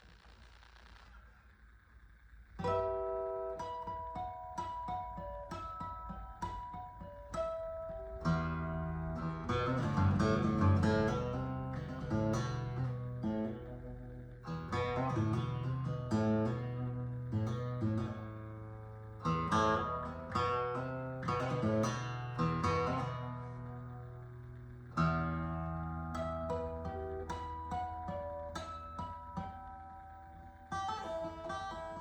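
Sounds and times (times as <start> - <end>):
acoustic guitar picked notes and chords: 2.6 - 32.0.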